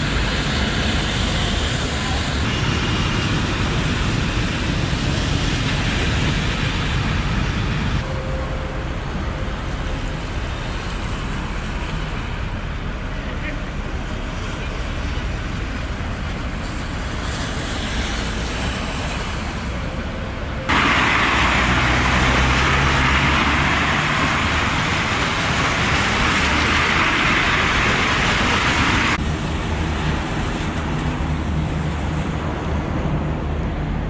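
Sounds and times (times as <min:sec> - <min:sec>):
low engine hum: 0:00.0 - 0:34.0
outdoor city ambience: 0:00.0 - 0:34.0
tyres hissing on wet road: 0:00.0 - 0:34.0.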